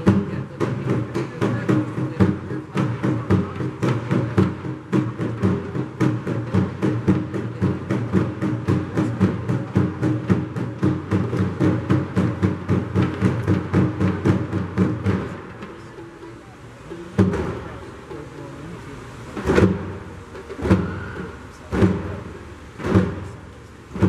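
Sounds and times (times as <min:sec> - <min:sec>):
hand drums playing driving beat: 0:00.0 - 0:24.0.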